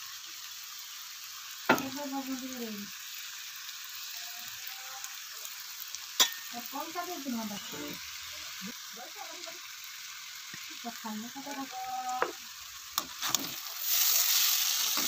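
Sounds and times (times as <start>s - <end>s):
noodles sizzling in a wok: 0.0s - 15.0s.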